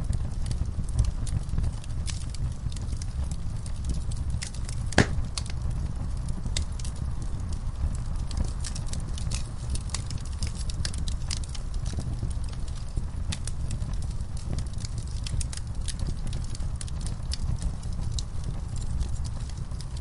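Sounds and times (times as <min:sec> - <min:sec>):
fire crackling and popping: 0:00.0 - 0:20.0
flames rumbling: 0:00.0 - 0:20.0.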